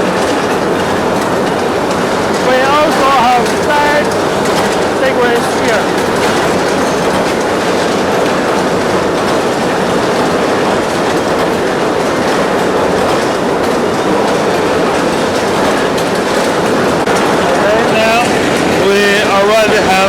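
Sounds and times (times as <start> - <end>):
forging machines clattering: 0.0 - 20.0.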